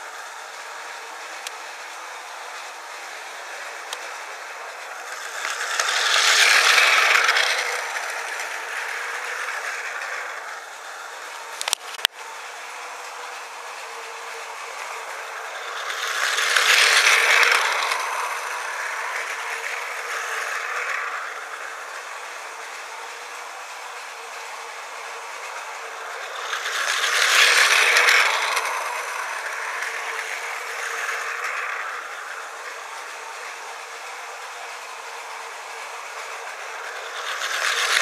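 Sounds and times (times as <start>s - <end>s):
toy train motor whirring: 0.0s - 38.0s.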